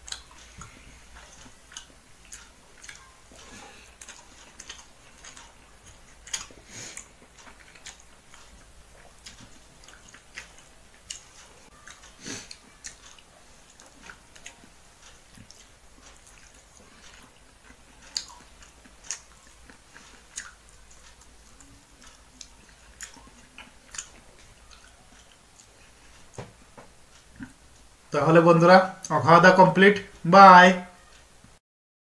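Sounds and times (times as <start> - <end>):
wet chewing and lip-smacking: 0.0 - 27.9.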